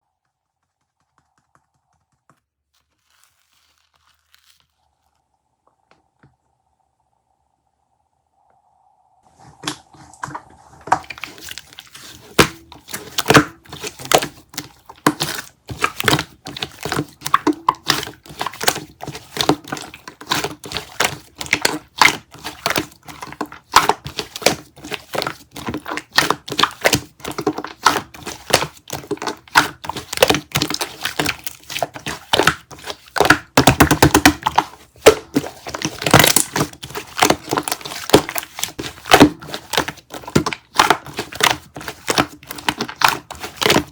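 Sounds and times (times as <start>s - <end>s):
slime crackling and popping: 0.4s - 5.3s, 11.0s - 43.9s.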